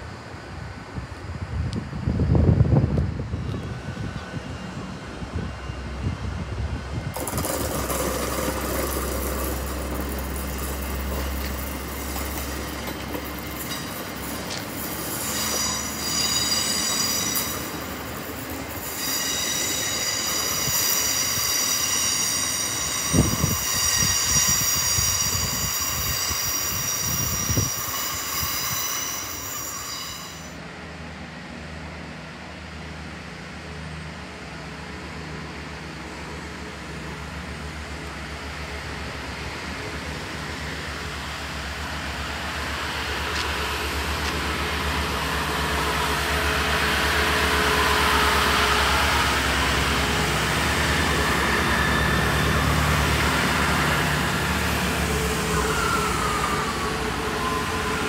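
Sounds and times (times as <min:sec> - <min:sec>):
train rumble: 0:00.0 - 0:58.0
wheels squealing on rails: 0:03.0 - 0:30.8, 0:34.4 - 0:58.0.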